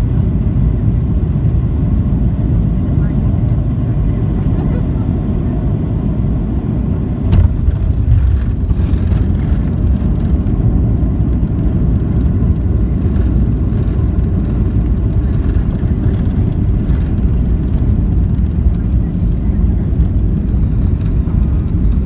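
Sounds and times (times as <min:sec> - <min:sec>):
aircraft cabin low rumble: 0:00.0 - 0:22.0.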